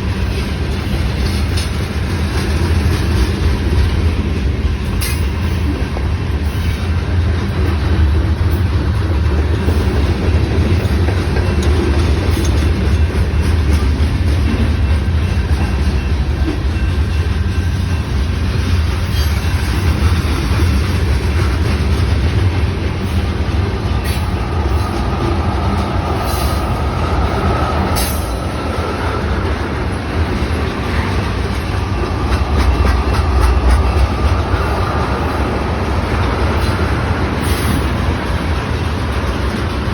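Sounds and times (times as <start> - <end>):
railroad cars rumbling past: 0.0 - 39.9.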